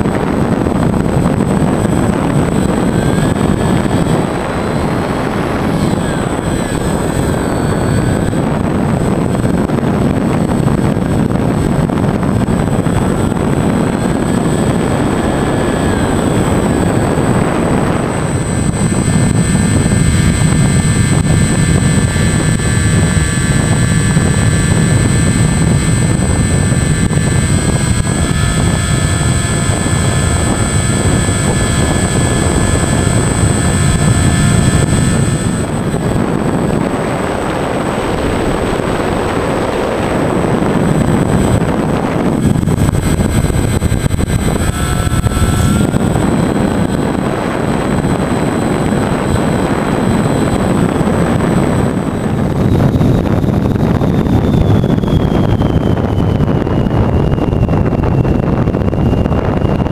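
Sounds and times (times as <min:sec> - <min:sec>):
electric motor high whine: 0:00.0 - 0:59.9
wind rush: 0:00.0 - 0:59.9.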